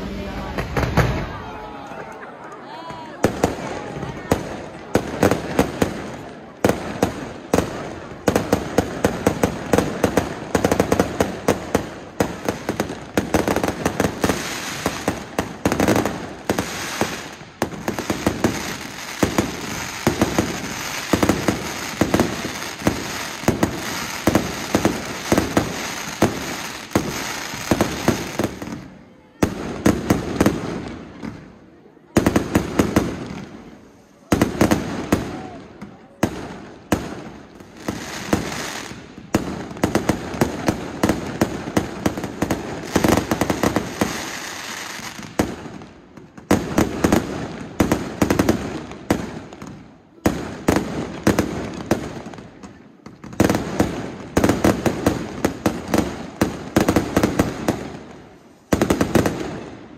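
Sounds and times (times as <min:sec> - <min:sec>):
fireworks sharp bangs: 0:00.0 - 0:01.5, 0:03.2 - 0:59.9
fireworks crackling and popping: 0:00.0 - 0:59.9.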